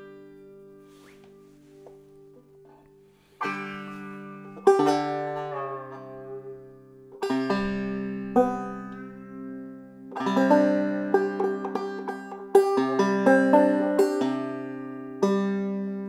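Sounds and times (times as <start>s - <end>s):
banjo chords ringing: 0.0s - 16.0s.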